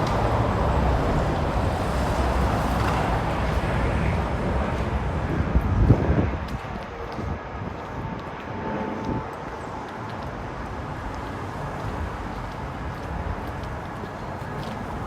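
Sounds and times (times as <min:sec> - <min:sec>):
traffic rumble: 0:00.0 - 0:15.0
wind on microphone: 0:00.0 - 0:15.0.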